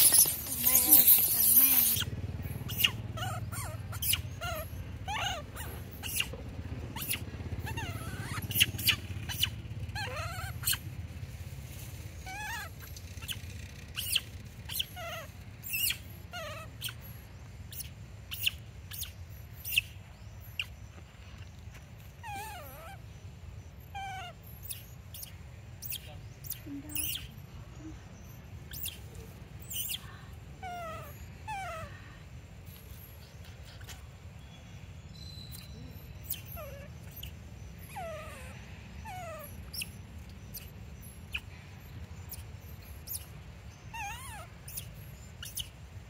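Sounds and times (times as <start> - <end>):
monkeys squeaking and whimpering: 0.0 - 11.2, 11.9 - 46.0.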